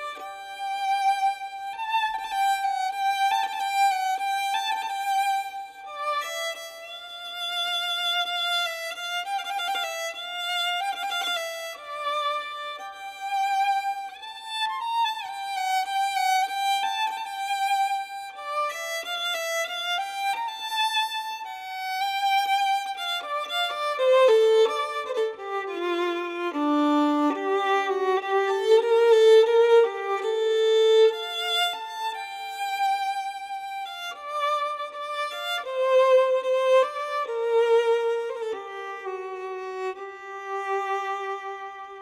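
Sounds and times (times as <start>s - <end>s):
violin melody: 0.0s - 42.0s.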